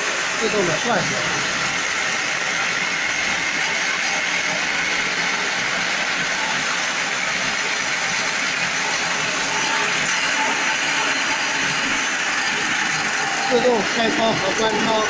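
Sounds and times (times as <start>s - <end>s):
baler machine running: 0.0s - 15.0s.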